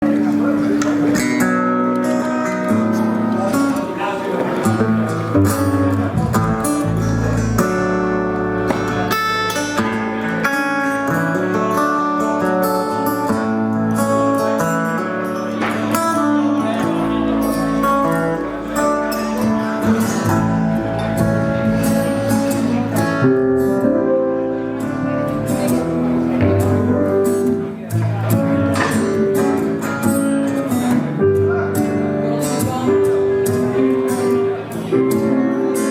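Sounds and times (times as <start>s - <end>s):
acoustic guitar picked and strummed: 0.0s - 35.9s.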